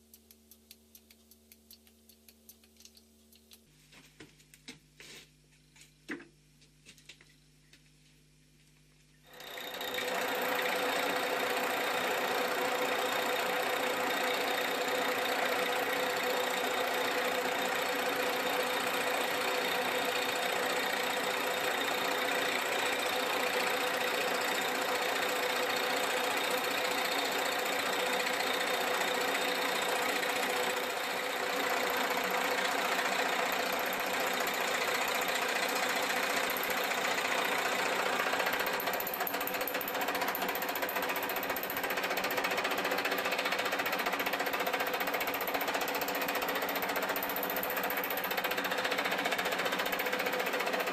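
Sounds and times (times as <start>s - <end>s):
milling machine cutting metal: 9.3s - 50.9s.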